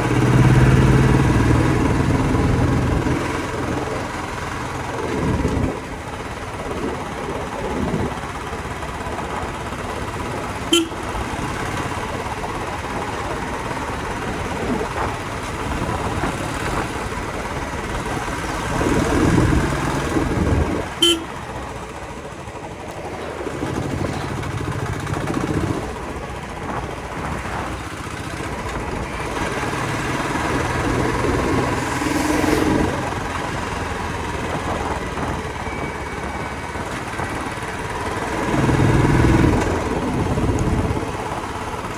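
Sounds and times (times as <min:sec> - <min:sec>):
motorcycle engine running: 0:00.0 - 0:41.9
road noise: 0:00.0 - 0:41.9.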